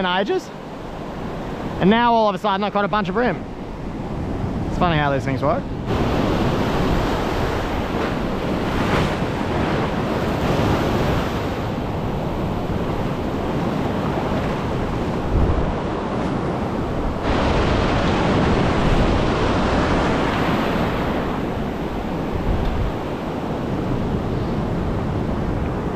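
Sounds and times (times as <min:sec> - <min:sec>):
surf breaking and washing over sand: 0:00.0 - 0:25.9
wind buffeting microphone: 0:02.9 - 0:25.9.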